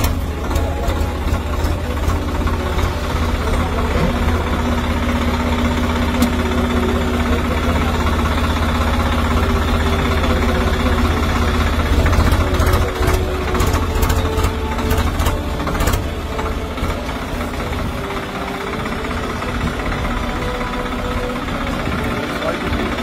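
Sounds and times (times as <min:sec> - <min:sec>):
diesel tractor engine idling: 0:00.0 - 0:23.0.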